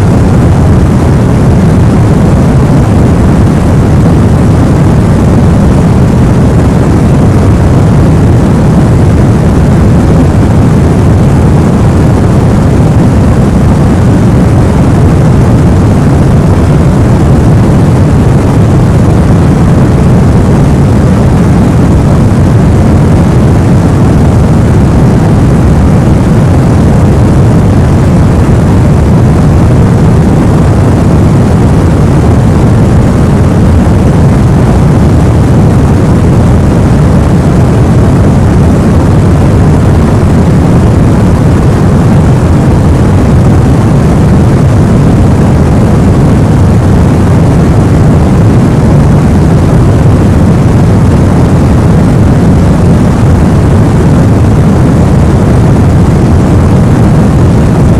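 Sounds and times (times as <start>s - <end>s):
steady hiss with low rumble: 0.0s - 56.8s.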